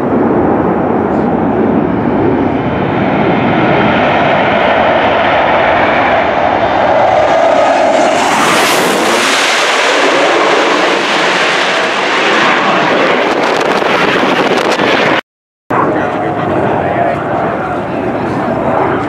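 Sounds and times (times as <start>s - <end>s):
jet engine crackling: 0.0s - 19.0s
jet engines passing overhead: 0.0s - 19.0s.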